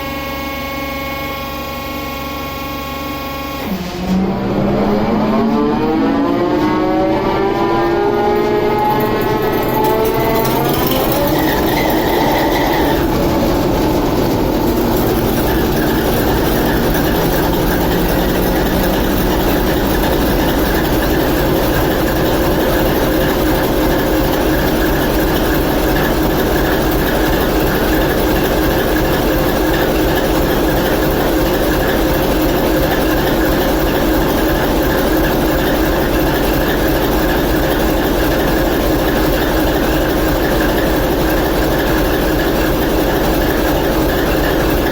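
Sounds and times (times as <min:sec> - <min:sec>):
locomotive diesel engine running: 0:00.0 - 0:44.9.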